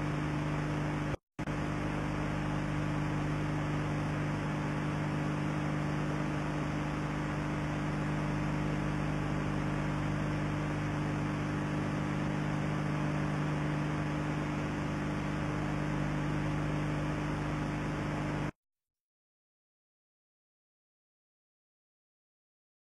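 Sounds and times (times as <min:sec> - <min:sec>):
electrical mains hum: 0:00.0 - 0:18.5.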